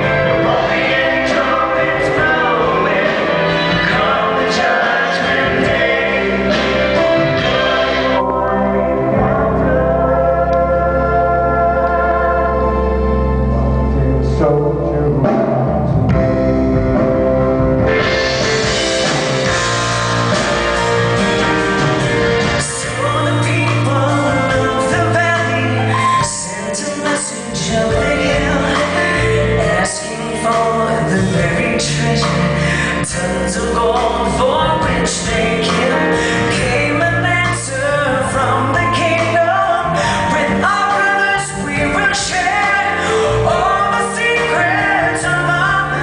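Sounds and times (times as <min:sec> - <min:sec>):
drum kit with cymbals: 0:00.0 - 0:08.2, 0:15.2 - 0:46.0
singers at microphones: 0:00.0 - 0:16.1, 0:22.6 - 0:46.0
keyboard: 0:00.0 - 0:46.0.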